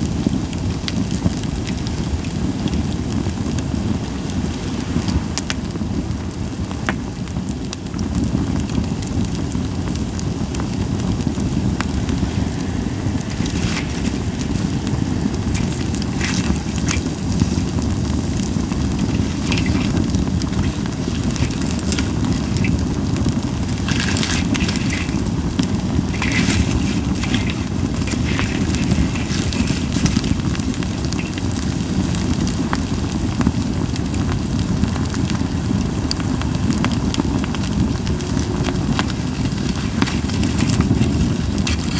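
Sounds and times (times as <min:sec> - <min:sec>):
campfire low rumble: 0:00.0 - 0:41.9
fire crackling and popping: 0:00.0 - 0:41.9.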